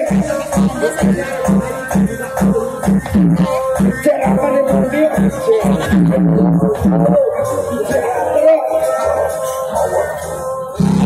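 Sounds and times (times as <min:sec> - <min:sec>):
pulsing bass: 0:00.0 - 0:08.4, 0:09.1 - 0:11.0
loud music over sound system: 0:00.0 - 0:11.0.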